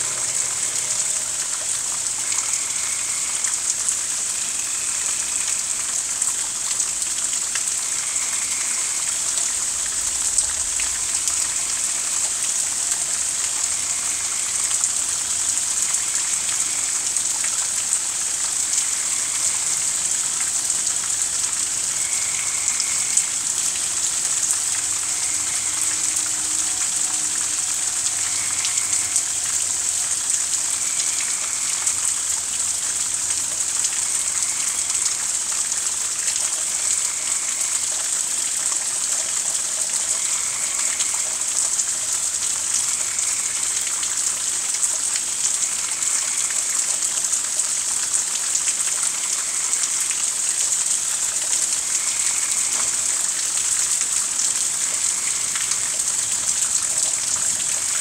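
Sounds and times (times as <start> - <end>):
faint frog calls: 0.0 - 47.6, 48.4 - 58.0
rain pattering: 0.0 - 58.0.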